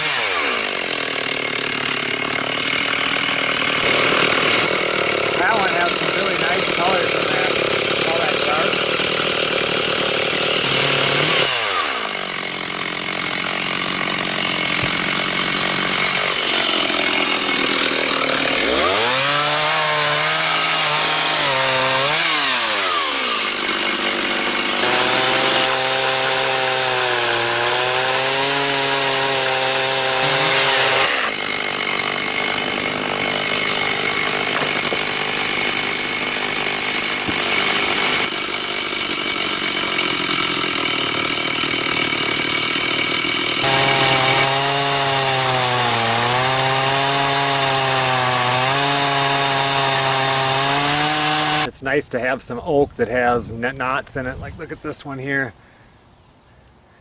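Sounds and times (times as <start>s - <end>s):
chainsaw cutting log: 0.0s - 52.4s.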